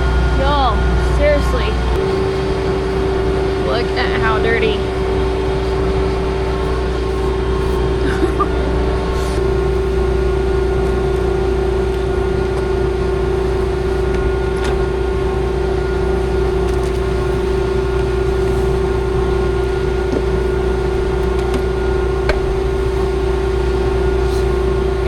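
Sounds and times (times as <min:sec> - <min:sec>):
combine harvester drone in cab: 0:00.0 - 0:25.0.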